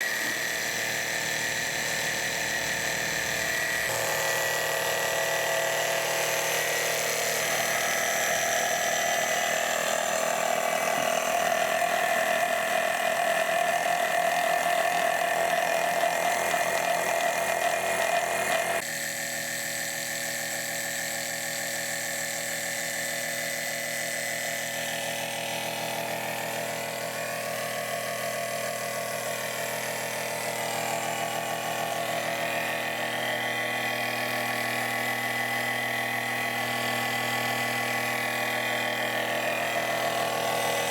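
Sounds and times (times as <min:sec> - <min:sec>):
pump motor whining: 0:00.0 - 0:40.9.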